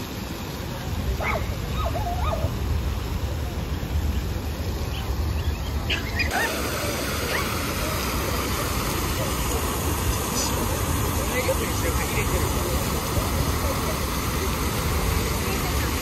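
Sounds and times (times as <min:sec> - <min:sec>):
fountain splashing into pool: 0:00.0 - 0:16.0.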